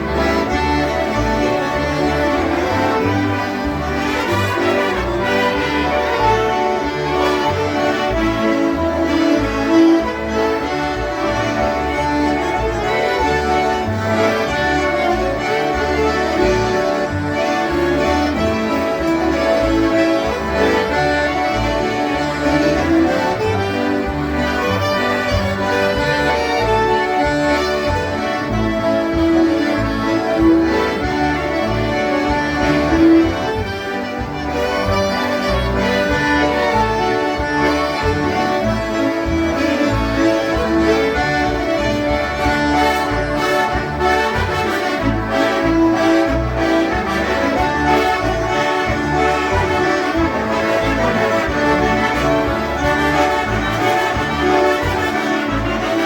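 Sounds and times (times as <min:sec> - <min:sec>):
concertinas playing a polka: 0:00.0 - 0:56.0.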